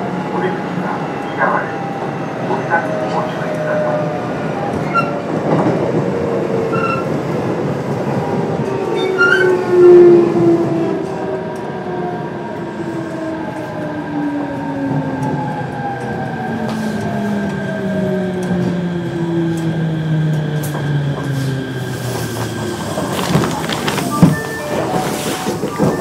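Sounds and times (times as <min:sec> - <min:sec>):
rail running noise: 0:00.0 - 0:26.0.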